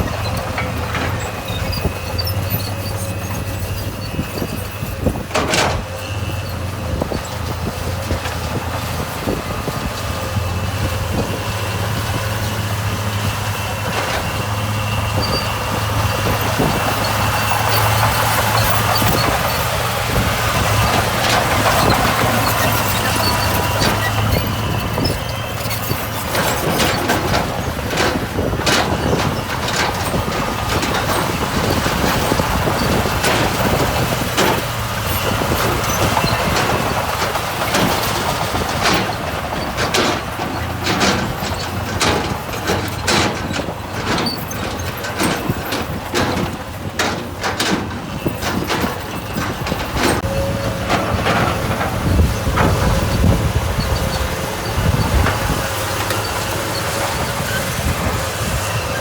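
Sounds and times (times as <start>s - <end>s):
gravel and stones clanking: 0.0s - 59.0s
heavy machine diesel engine: 0.0s - 59.0s.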